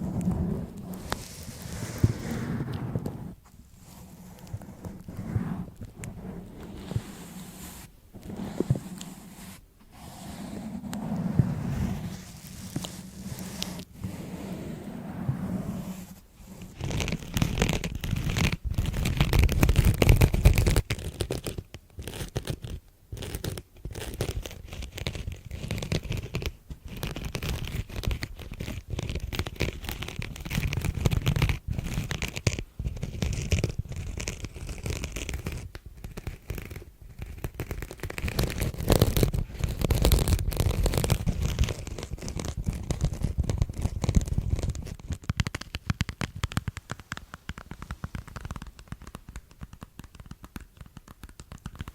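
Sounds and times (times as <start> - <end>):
scratching and crinkling: 0.0 - 51.9.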